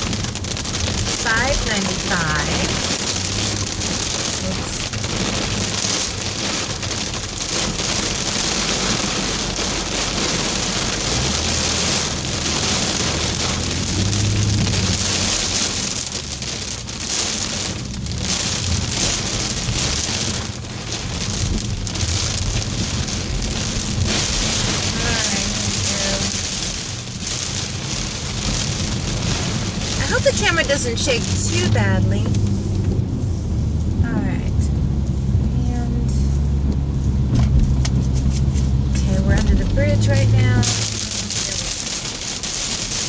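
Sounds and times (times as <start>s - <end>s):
low road rumble: 0.0s - 43.0s
rain on car windshield and roof: 0.0s - 43.0s.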